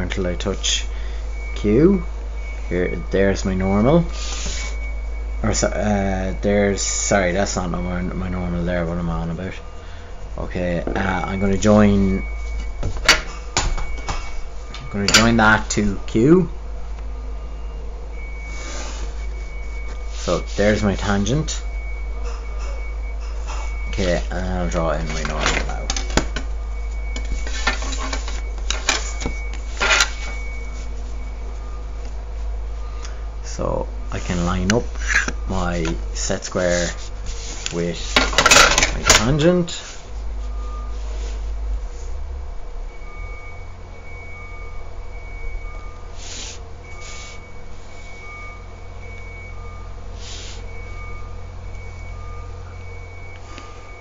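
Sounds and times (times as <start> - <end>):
faint beeps: 0.0 - 54.0
steady low hum: 0.0 - 54.0.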